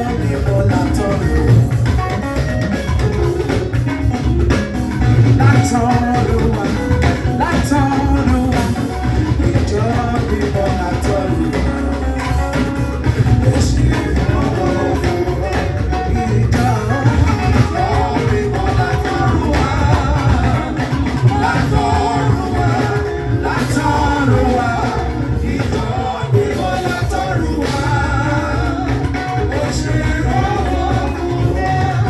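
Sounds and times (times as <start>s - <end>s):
band with drums and bass: 0.0s - 32.0s
voices singing: 0.0s - 32.0s.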